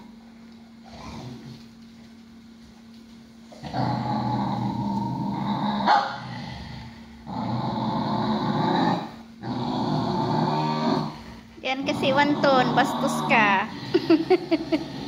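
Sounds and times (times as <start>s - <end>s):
dog growling: 0.8s - 1.7s, 3.5s - 15.0s.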